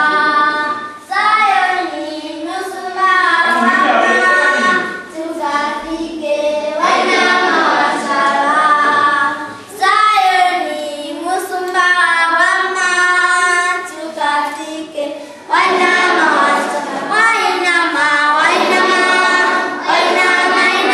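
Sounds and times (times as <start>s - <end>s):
children singing together: 0.0s - 20.9s.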